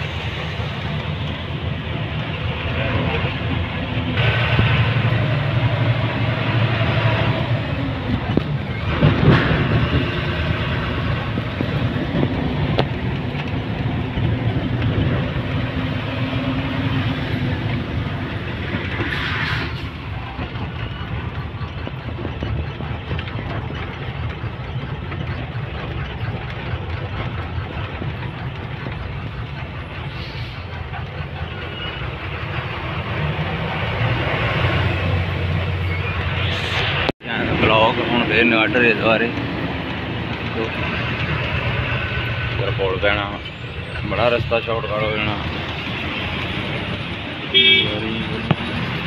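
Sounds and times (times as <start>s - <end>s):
road noise inside cab: 0.0s - 49.0s
truck engine running: 0.0s - 49.0s.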